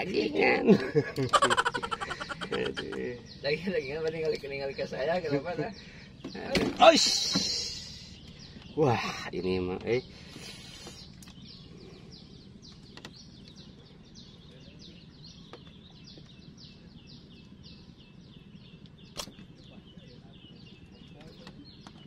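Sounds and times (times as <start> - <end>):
bird chirping: 0.0 - 22.0
outdoor background noise: 0.0 - 22.0.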